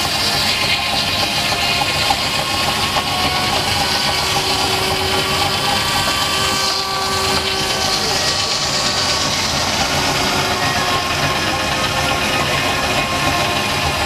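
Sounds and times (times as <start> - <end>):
circular saw cutting log: 0.0 - 14.0
low steady drone: 0.0 - 14.0.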